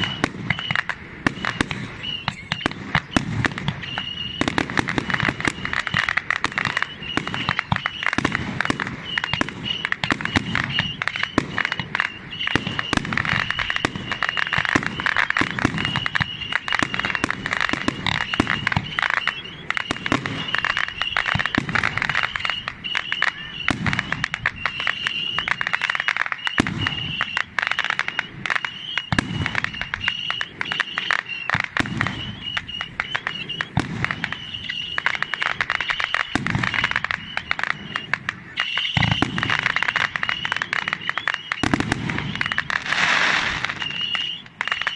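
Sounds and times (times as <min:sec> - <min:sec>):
deep firework bangs: 0:00.0 - 0:44.9
fireworks crackling and popping: 0:00.0 - 0:44.9.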